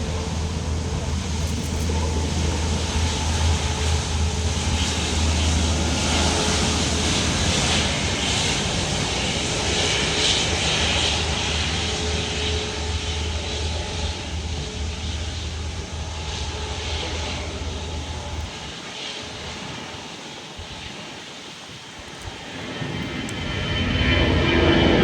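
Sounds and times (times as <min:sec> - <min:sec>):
airliner jet engines passing: 0:00.0 - 0:25.0.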